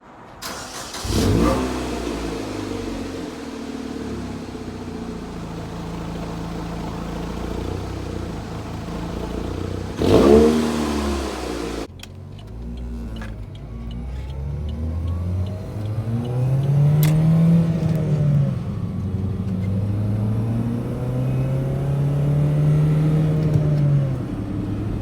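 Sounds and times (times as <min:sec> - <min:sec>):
car engine starting and idling: 0:00.0 - 0:25.0
engine rev: 0:00.4 - 0:25.0.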